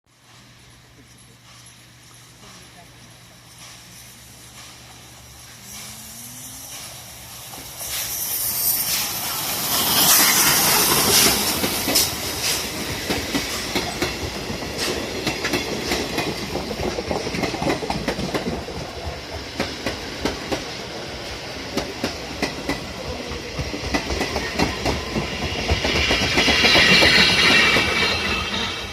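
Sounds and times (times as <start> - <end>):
train rumble: 0.1 - 28.9
train wheels clattering: 0.2 - 28.9.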